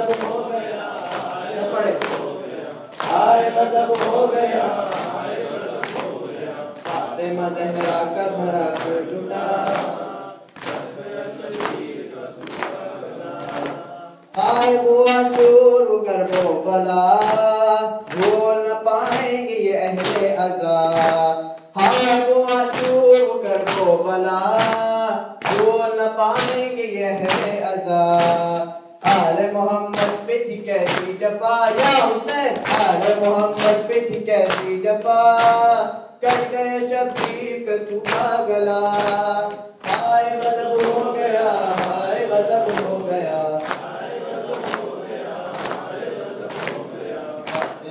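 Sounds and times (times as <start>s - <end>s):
hands slapping chests: 0.0s - 7.1s, 7.7s - 8.1s, 8.7s - 15.6s, 16.2s - 23.9s, 24.5s - 25.8s, 26.4s - 29.2s, 29.9s - 30.3s, 30.9s - 41.1s, 41.7s - 47.8s
men chanting a lament: 0.0s - 47.9s.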